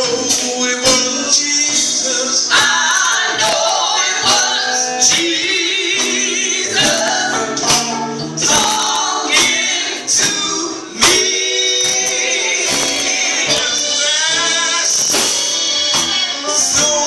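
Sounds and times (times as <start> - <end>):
amplified gospel group singing: 0.0 - 17.0
sharp percussion hits: 2.5 - 17.0.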